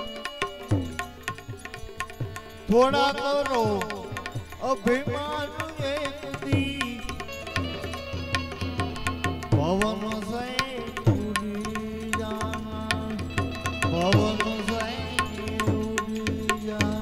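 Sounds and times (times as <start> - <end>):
hand drums beating: 0.0 - 17.0
held melodic tones: 0.0 - 17.0.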